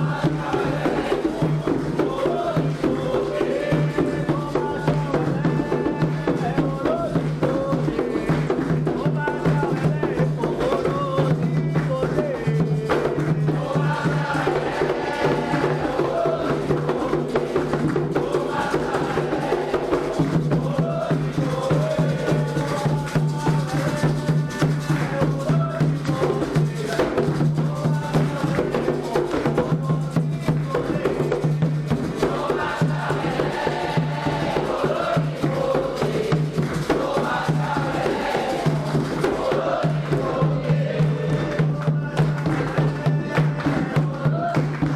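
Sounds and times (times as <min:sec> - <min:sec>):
hand drums and percussion: 0:00.0 - 0:44.9
voices singing together: 0:00.0 - 0:44.9.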